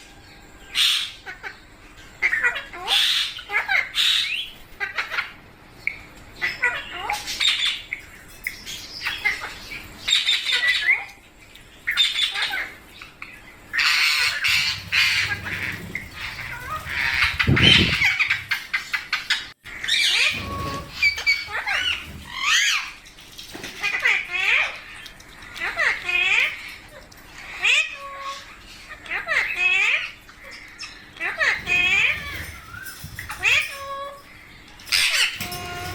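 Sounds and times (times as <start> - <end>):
parakeets squawking and chirping: 0.7 - 11.2, 11.8 - 35.9.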